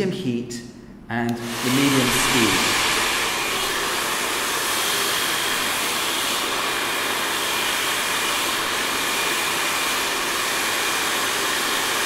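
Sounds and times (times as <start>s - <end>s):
hair dryer blowing air: 1.3s - 12.0s.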